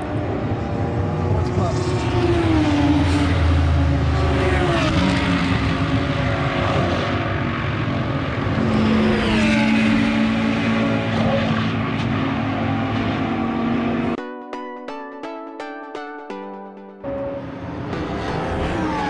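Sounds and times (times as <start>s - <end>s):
race car engines at speed: 0.0s - 14.2s, 17.3s - 19.0s.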